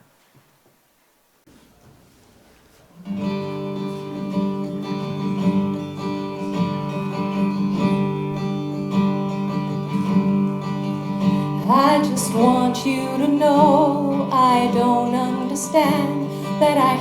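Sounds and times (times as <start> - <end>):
acoustic guitar chords: 3.0 - 17.0.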